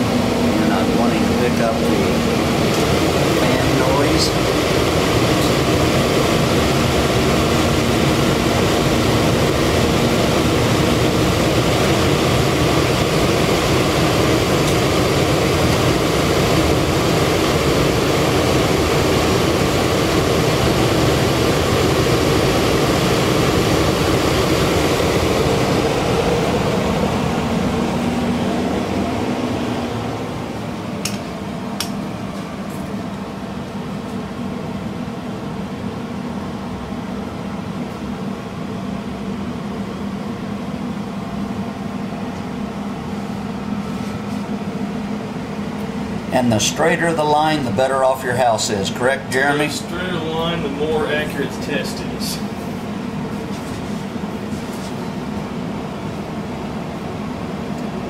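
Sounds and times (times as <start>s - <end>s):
fan rushing air with low hum: 0.0s - 58.0s.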